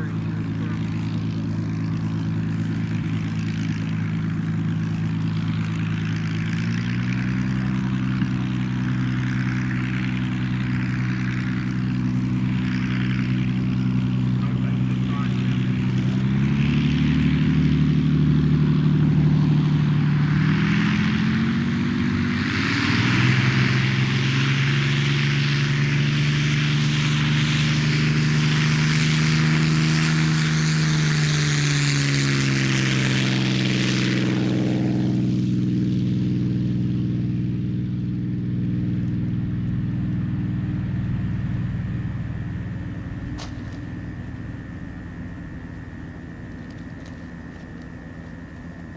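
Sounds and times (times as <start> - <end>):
propeller aircraft engine droning: 0.0 - 48.9.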